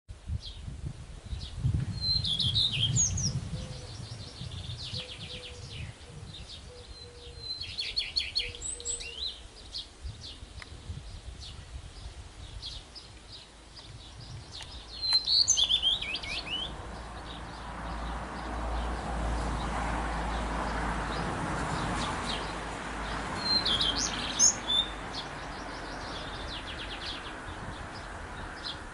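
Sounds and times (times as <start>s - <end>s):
bird singing: 1.4s - 19.0s, 21.8s - 28.9s.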